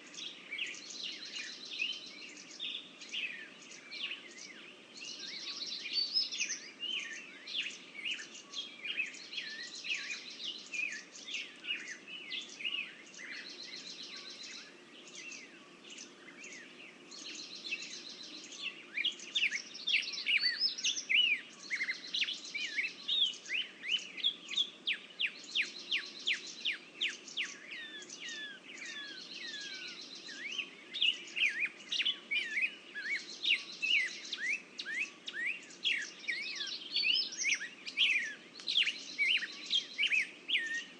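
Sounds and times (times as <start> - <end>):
songbirds chirping and whistling: 0.0 - 40.9.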